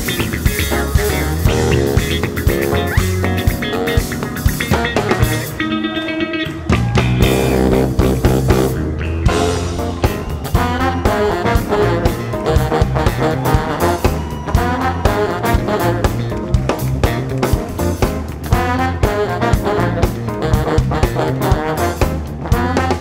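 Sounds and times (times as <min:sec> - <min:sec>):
drums and cymbals: 0:00.0 - 0:05.7, 0:06.5 - 0:23.0
jazz-funk band playing: 0:00.0 - 0:23.0.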